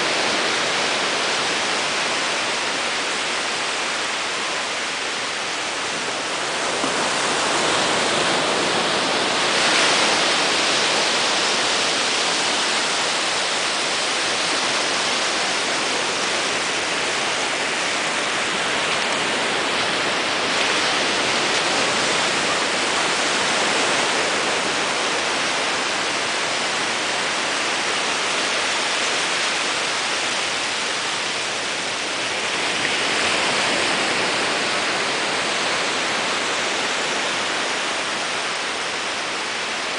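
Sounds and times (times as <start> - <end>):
small waves breaking: 0.0 - 39.9.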